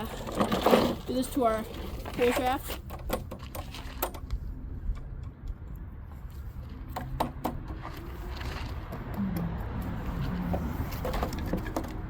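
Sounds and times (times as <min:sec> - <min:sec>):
low rumbling handling noise: 0:00.0 - 0:12.0.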